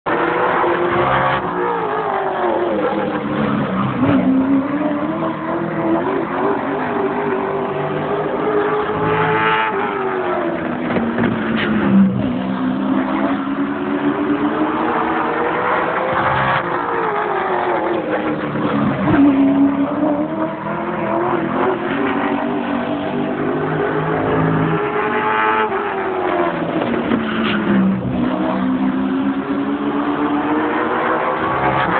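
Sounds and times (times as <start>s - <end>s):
race car engine revving: 0.1s - 31.9s.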